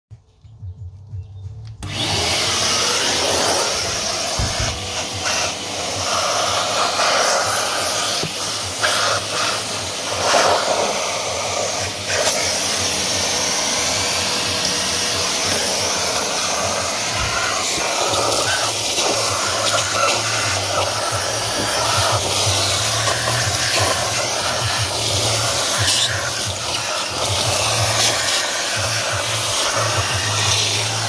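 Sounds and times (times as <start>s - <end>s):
vacuum cleaner running: 1.8s - 31.0s.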